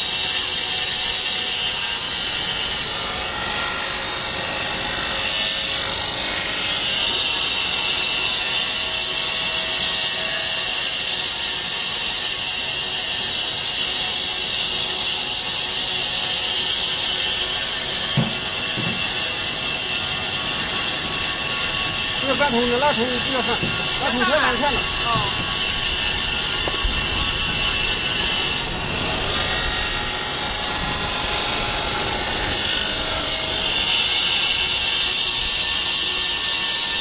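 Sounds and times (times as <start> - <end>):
foam-cutting machine hissing: 0.0 - 37.0.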